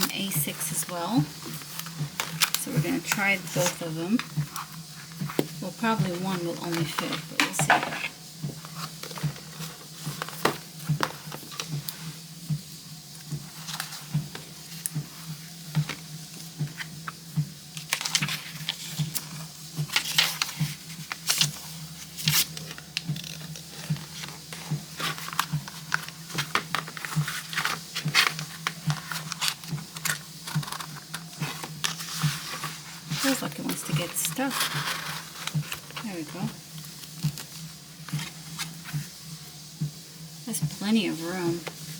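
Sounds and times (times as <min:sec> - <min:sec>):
paper rubbing and rustling: 0:00.0 - 0:12.2, 0:13.4 - 0:39.1.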